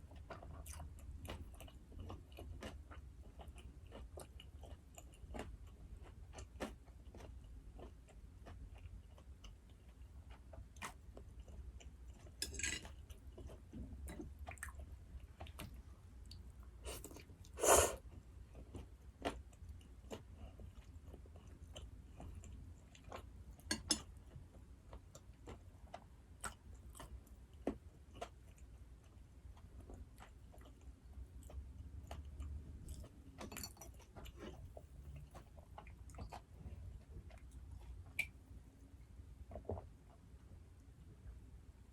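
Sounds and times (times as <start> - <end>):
person chewing food: 0.0 - 40.2.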